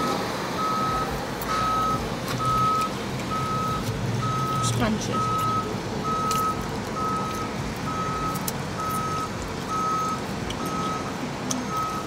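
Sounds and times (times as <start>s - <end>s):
vehicle warning beeper: 0.0s - 12.0s.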